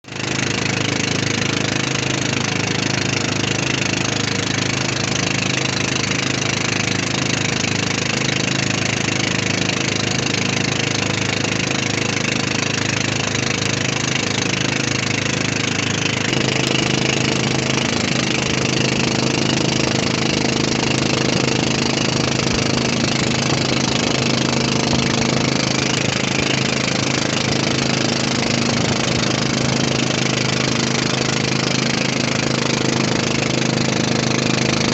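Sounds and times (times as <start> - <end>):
boat engine running: 0.0 - 34.9.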